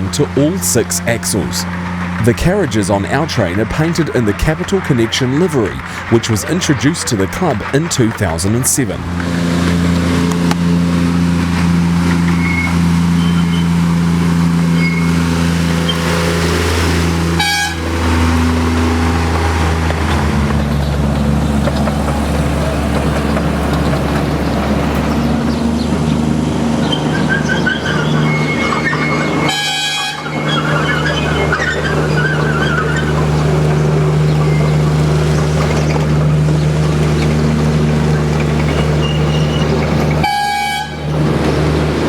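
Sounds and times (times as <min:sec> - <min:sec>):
petrol engine running: 0:00.0 - 0:42.0.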